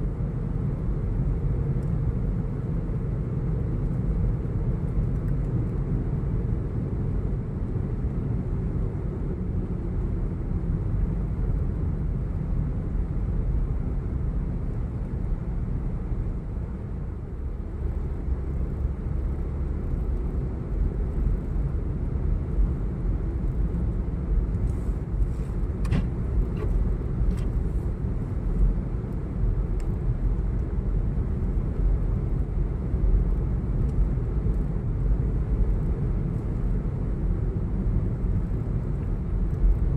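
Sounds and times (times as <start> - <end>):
vehicle rumble: 0.0 - 39.9.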